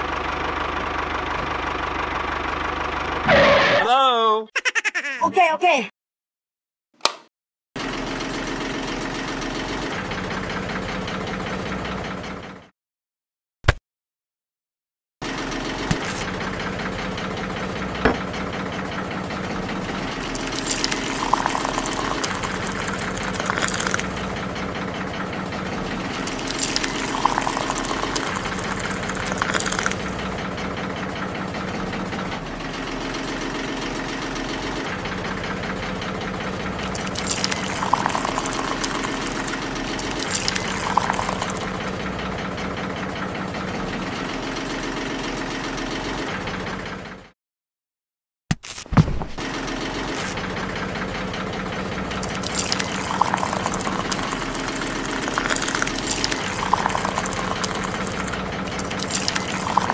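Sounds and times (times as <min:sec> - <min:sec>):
small engine idling: 0:00.0 - 0:03.4, 0:07.8 - 0:12.7, 0:15.2 - 0:47.3, 0:49.4 - 0:59.9.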